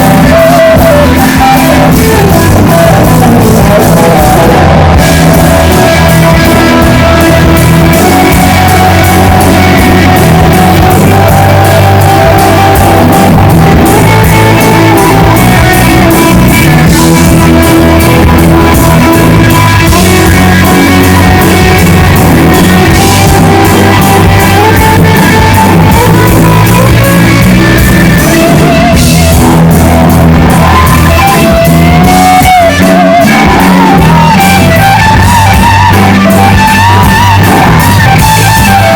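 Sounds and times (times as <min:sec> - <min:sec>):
rock band playing loud: 0:00.0 - 0:38.9.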